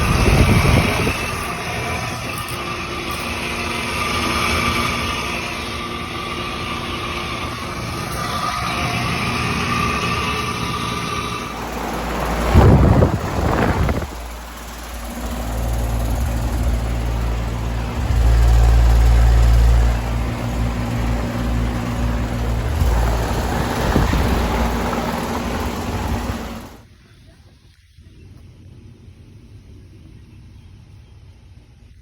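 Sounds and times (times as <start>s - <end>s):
compressor hum: 0.0s - 26.9s
condenser fan rushing: 0.0s - 26.9s.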